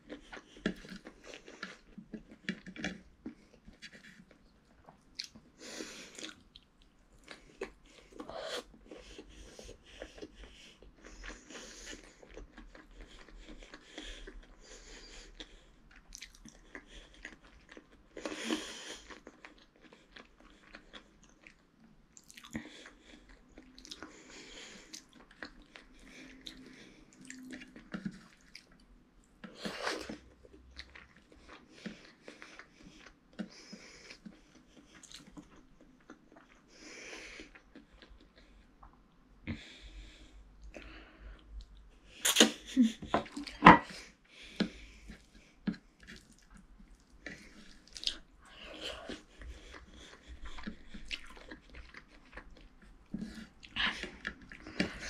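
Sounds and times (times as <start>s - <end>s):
child chewing food: 0.0s - 55.0s.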